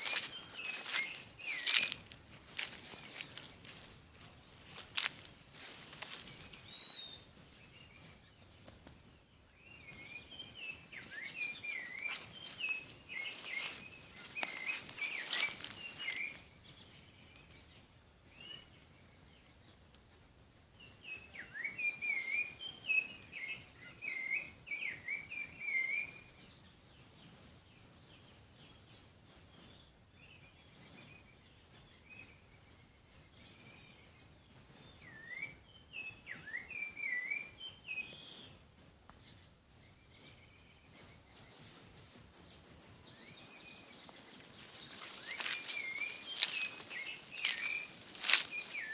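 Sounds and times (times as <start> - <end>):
songbirds chirping and singing: 0.0 - 48.9.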